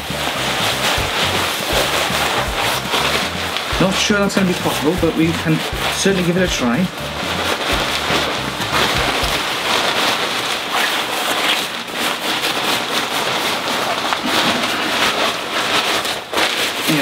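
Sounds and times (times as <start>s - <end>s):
waterproof fabric rustling: 0.0s - 17.0s.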